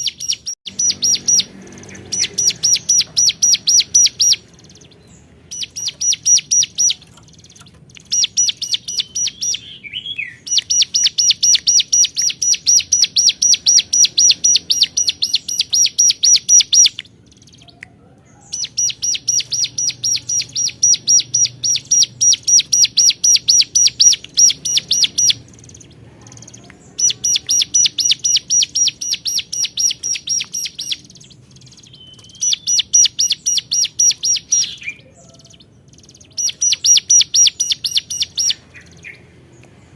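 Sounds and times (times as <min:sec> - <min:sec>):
prinia singing rapid high notes: 0:00.0 - 0:39.3.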